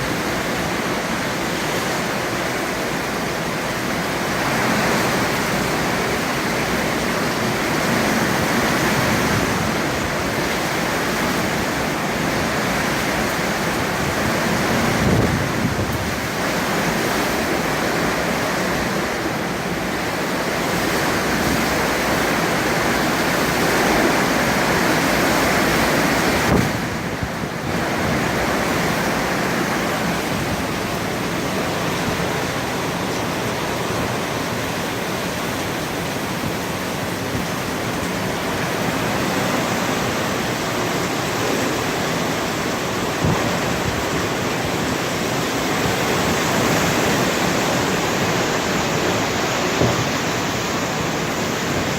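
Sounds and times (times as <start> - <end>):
strong wind gusts: 0.0 - 51.9.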